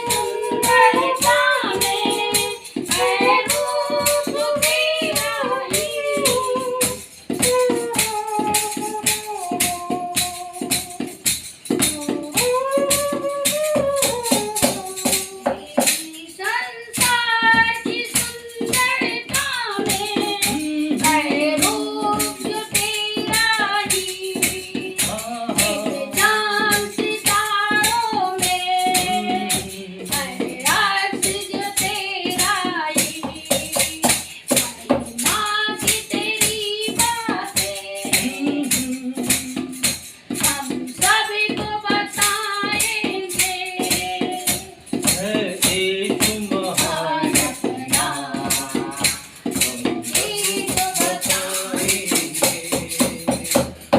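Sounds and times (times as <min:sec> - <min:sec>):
jingling percussion beat: 0:00.0 - 0:53.9
person singing devotional song: 0:00.0 - 0:53.9.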